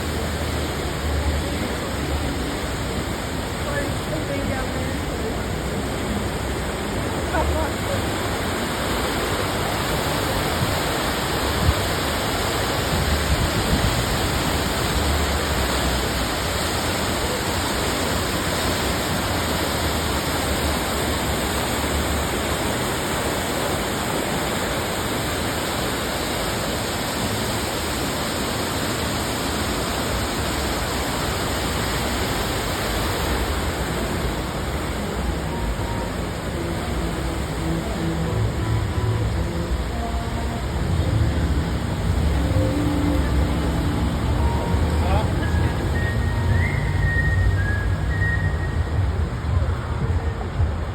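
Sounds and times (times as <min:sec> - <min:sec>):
waterfall cascading into pool: 0:00.0 - 0:50.9.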